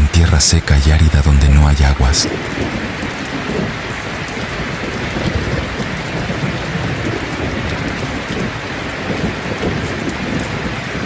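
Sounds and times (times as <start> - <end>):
heavy rain falling: 0.0 - 11.0
distant thunder rumbling: 2.0 - 11.0.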